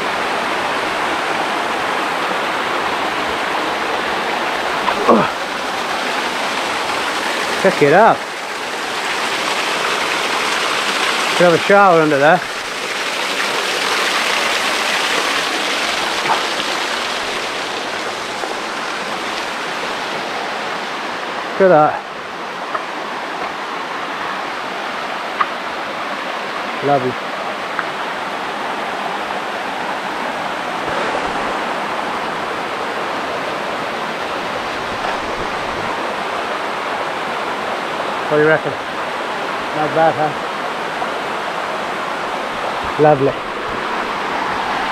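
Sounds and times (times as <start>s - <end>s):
waterfall pouring over rocks: 0.0s - 44.9s.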